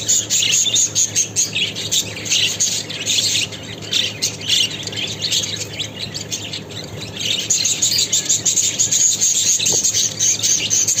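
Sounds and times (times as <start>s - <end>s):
budgerigars chattering and chirping: 0.0s - 11.0s.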